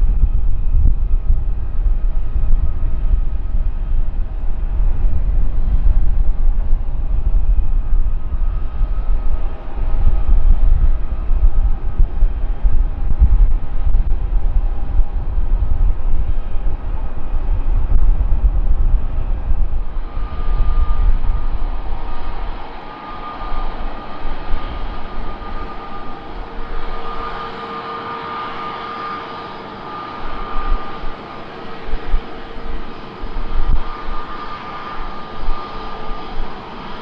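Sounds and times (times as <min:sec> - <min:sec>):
jet engines idling whine: 0:00.0 - 0:37.0
jet landing rumble: 0:00.0 - 0:37.0.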